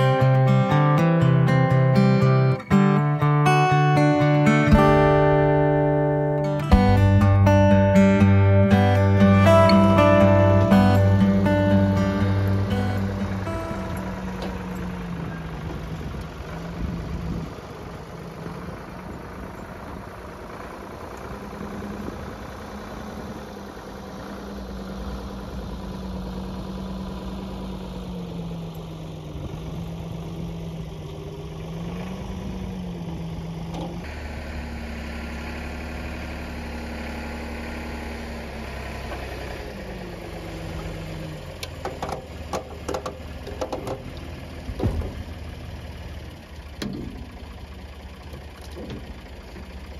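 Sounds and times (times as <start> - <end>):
backhoe diesel engine running: 0.0 - 49.9.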